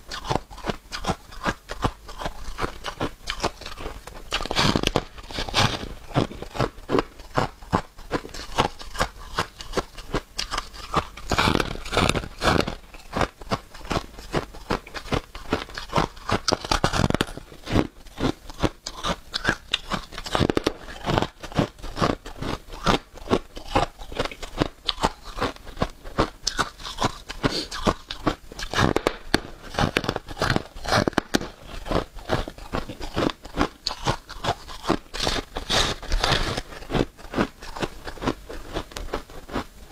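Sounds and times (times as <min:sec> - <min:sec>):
frost being chewed crunching: 0:00.0 - 0:39.9.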